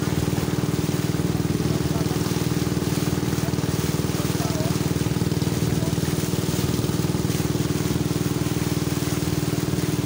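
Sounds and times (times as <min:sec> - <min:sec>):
motorboat engine drone: 0:00.0 - 0:10.0
wind and water noise: 0:00.0 - 0:10.0.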